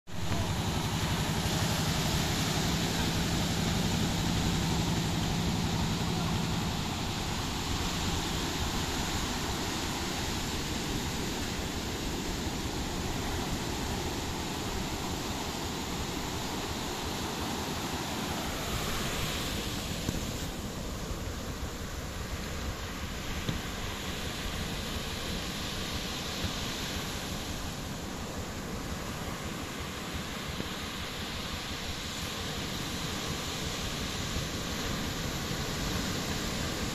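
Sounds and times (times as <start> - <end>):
wind: 0.0 - 36.9
boat engine hum: 0.1 - 30.3
water rushing: 0.1 - 36.9.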